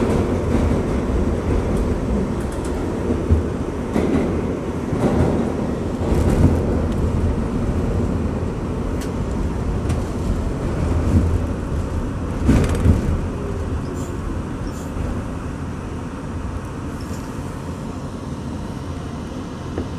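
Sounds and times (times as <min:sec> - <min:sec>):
train wheels rumbling on track: 0:00.0 - 0:19.9.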